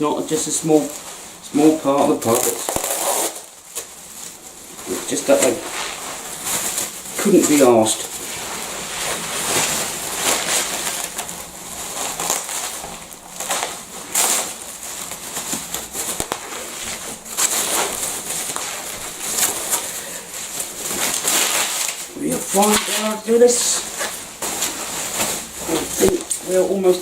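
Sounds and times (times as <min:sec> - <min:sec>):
bubble wrap crinkling: 0:00.0 - 0:27.0.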